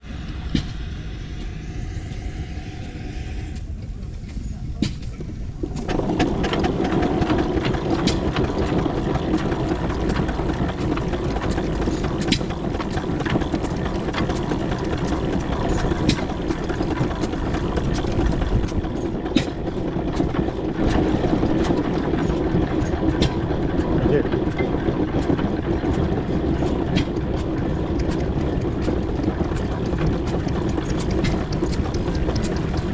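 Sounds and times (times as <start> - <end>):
steam engine mechanical running: 0.0 - 32.9
running gear clicks and knocks: 4.3 - 32.9.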